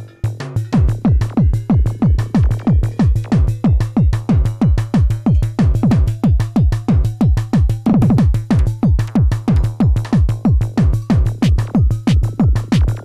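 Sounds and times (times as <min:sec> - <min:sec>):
kick drum: 0:00.3 - 0:13.0.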